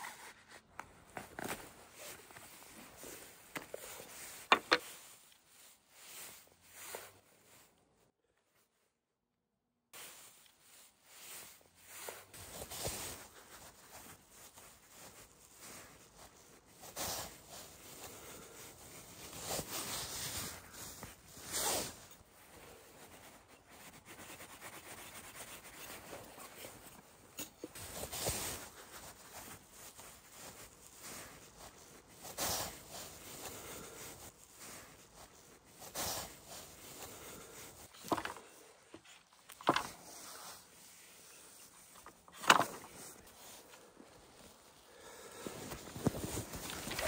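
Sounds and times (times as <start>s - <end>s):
hands rustling cord: 0.0s - 8.8s, 10.0s - 47.0s.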